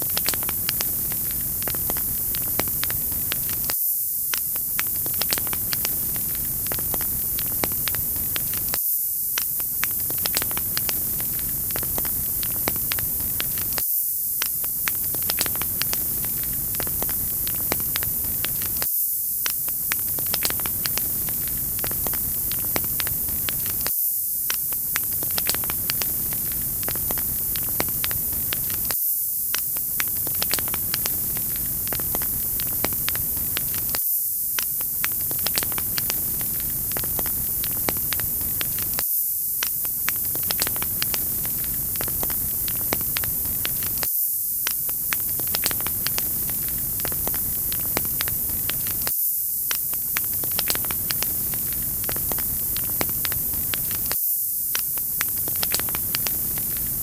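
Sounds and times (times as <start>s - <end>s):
wood fire crackling: 0.0s - 3.7s, 4.3s - 8.8s, 9.4s - 13.8s, 14.4s - 23.9s, 24.5s - 34.0s, 34.6s - 39.0s, 39.6s - 49.1s, 49.7s - 54.2s, 54.8s - 57.0s.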